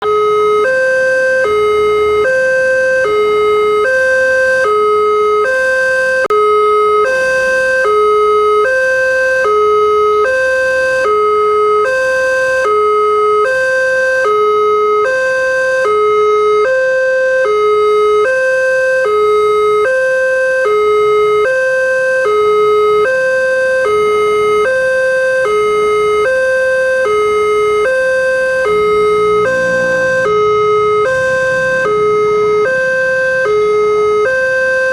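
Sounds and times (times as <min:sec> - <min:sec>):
level crossing two-tone alarm: 0:00.0 - 0:34.9.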